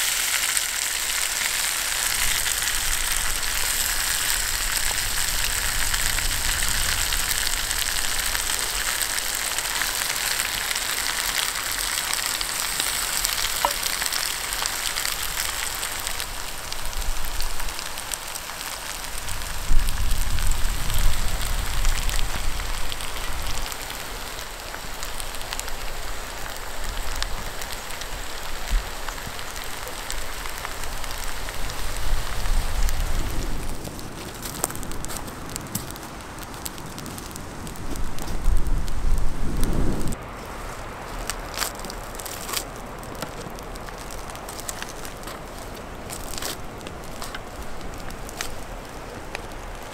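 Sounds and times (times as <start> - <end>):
stew sizzling in a clay pot: 0.0 - 49.9.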